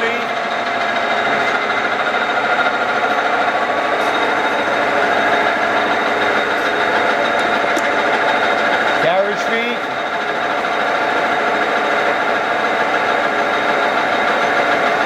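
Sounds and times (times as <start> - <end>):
lathe gearing whine: 0.0 - 15.0.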